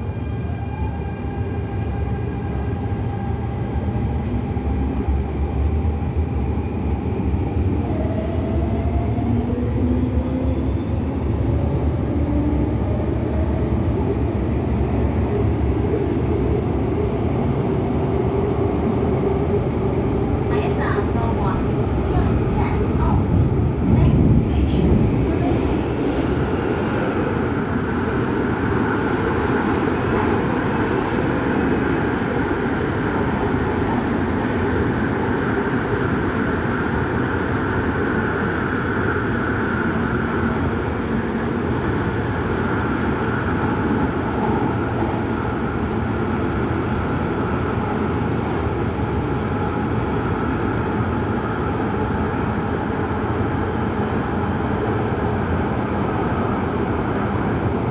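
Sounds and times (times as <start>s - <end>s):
train running noise: 0.0s - 57.9s.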